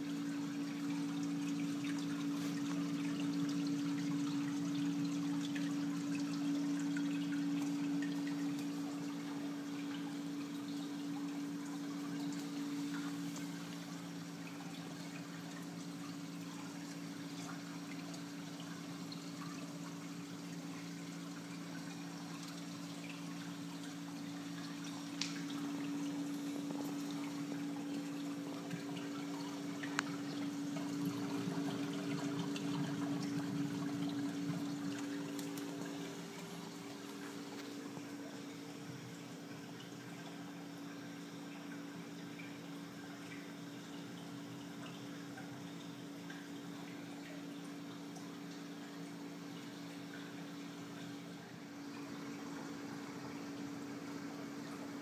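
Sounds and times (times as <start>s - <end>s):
pump hum: 0.0s - 55.0s
water trickling and splashing: 0.0s - 55.0s.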